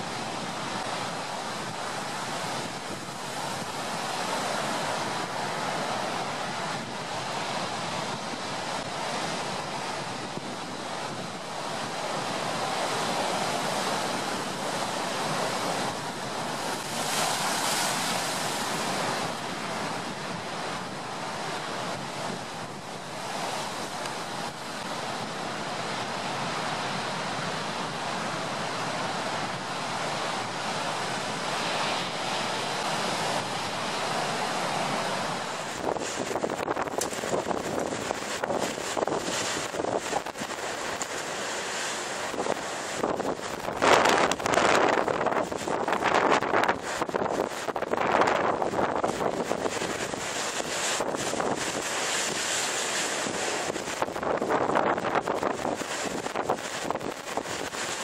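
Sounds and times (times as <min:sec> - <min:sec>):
waves crashing: 0:00.0 - 0:58.0
wind: 0:00.0 - 0:58.0.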